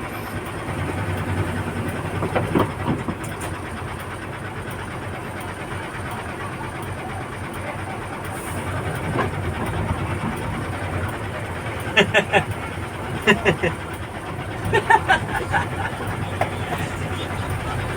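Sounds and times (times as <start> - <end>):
diesel engine running: 0.0 - 17.9.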